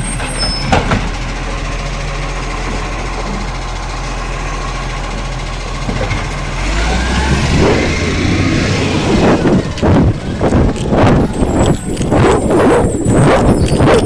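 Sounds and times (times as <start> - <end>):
garbage truck engine running: 0.0 - 14.0.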